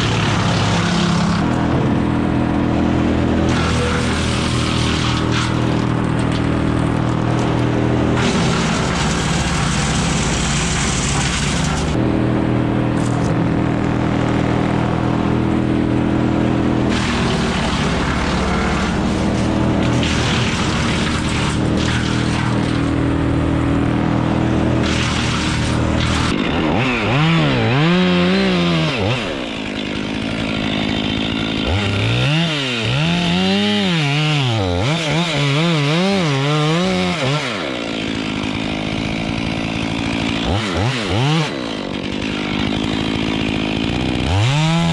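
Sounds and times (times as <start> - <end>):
chainsaw engine revving: 0.0 - 12.0, 12.9 - 44.9.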